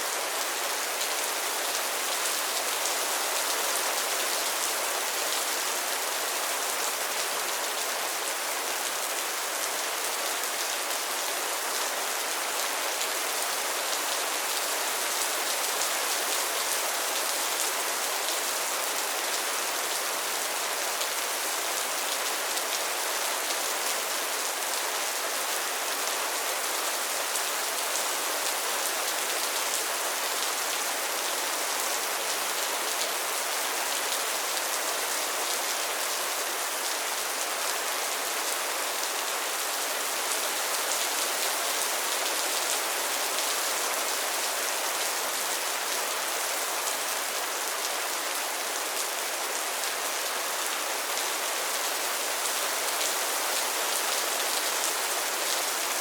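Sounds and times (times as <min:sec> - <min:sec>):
rain falling on pond water: 0:00.0 - 0:56.0.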